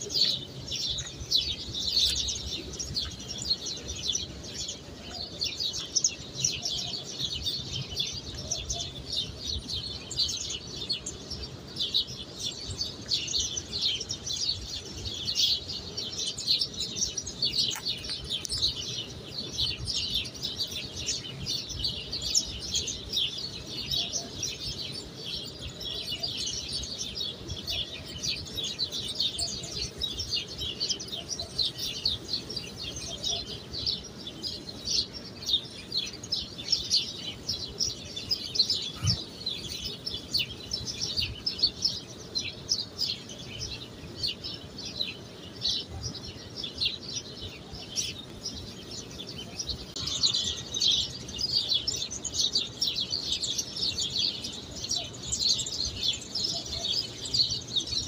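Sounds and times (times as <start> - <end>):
flock of small birds chirping: 0.0 - 58.0.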